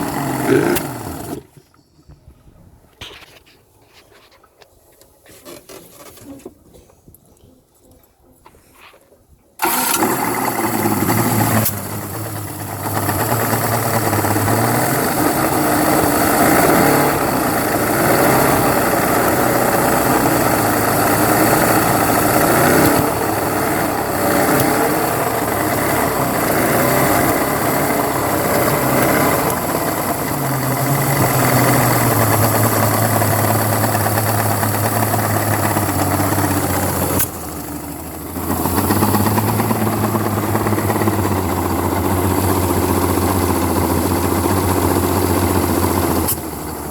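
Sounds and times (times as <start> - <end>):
outboard motor running unevenly: 0.0 - 1.5, 9.6 - 46.9.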